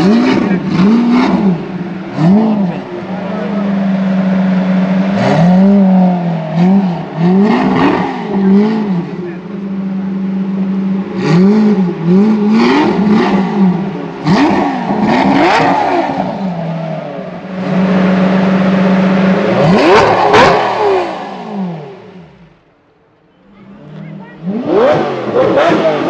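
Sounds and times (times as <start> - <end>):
car engine revving and idling: 0.0 - 26.0.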